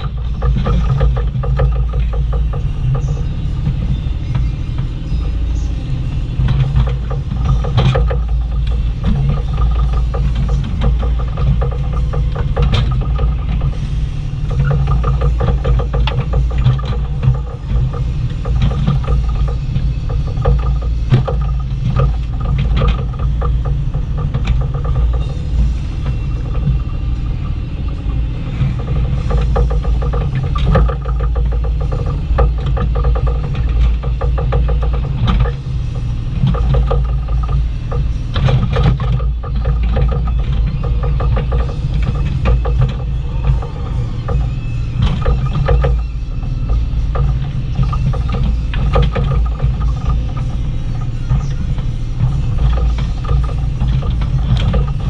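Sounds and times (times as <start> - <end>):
excavator bucket clanking: 0.0 - 55.0
excavator diesel engine running: 0.0 - 55.0.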